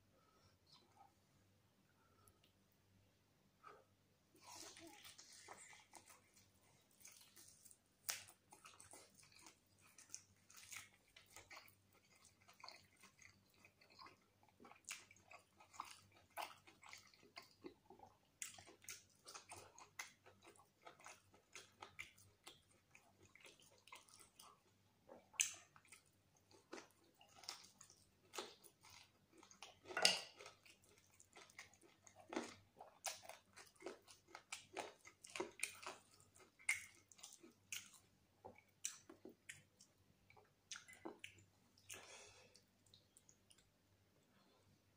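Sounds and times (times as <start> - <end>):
close chewing and biting: 4.4 - 43.6.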